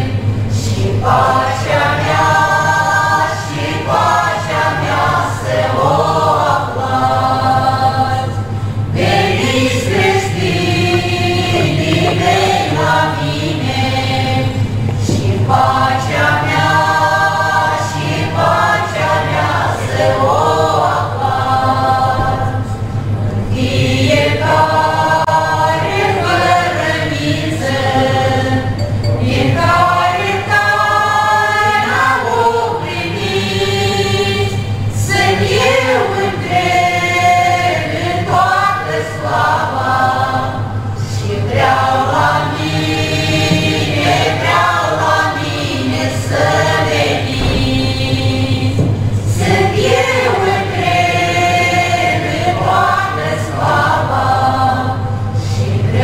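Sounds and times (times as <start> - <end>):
mixed choir singing in harmony: 0.0 - 56.0.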